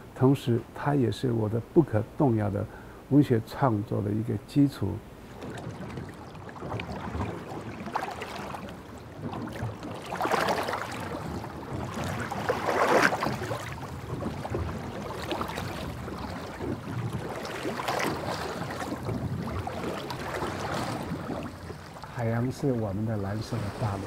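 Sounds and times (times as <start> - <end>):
sea water sloshing: 2.6 - 24.0.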